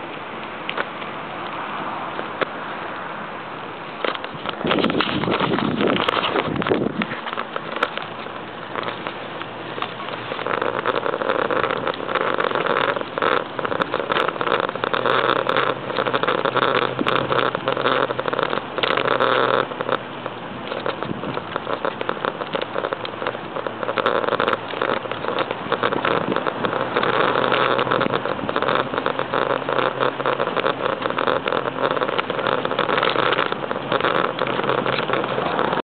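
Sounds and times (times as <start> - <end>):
bicycle tyre noise on pavement: 0.0 - 35.8
wind across microphone: 4.0 - 35.8.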